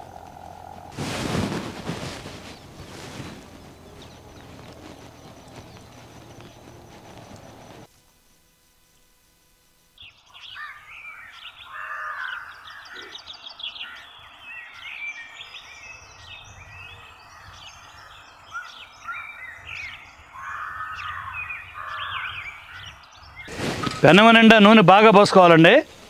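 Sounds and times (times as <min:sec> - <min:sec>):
birds chirping chorus: 0:00.0 - 0:07.9, 0:10.0 - 0:26.0
harsh rasping bird calls: 0:00.0 - 0:07.9, 0:10.3 - 0:24.7.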